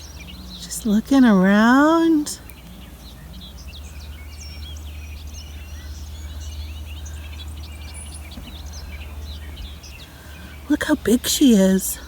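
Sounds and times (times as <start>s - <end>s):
steady low rumble: 0.0s - 11.2s
small birds chirping: 0.0s - 12.0s.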